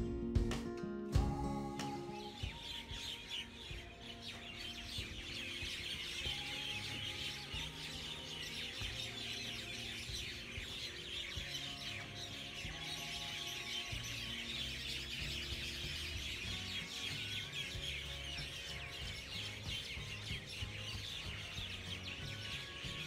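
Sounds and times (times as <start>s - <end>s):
soft background music: 0.0s - 23.0s
small birds chirping: 1.2s - 23.0s.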